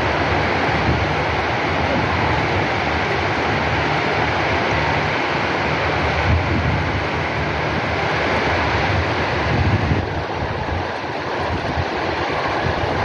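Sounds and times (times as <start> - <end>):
heavy rain pouring: 0.0 - 13.0
wind buffeting microphone: 0.0 - 13.0.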